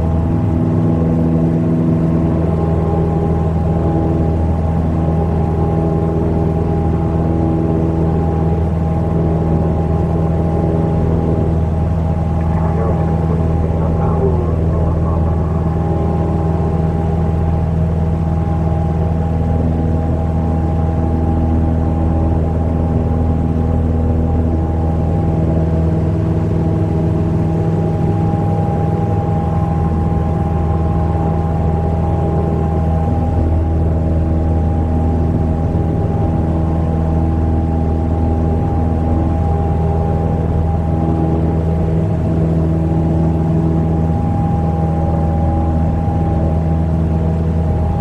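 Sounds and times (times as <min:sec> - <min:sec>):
airplane engine drone in cabin: 0:00.0 - 0:48.0.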